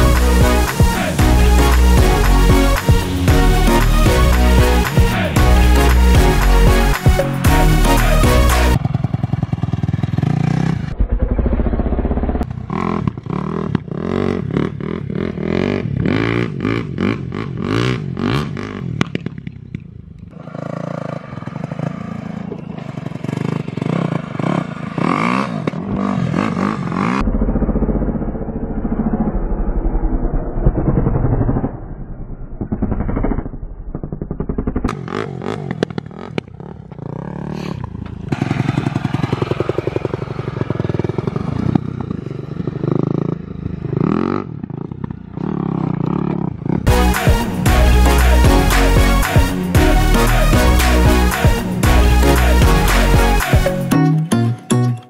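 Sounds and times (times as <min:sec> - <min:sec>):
dirt bike engine revving: 0:00.0 - 0:19.2, 0:20.3 - 0:29.4, 0:32.6 - 0:53.9.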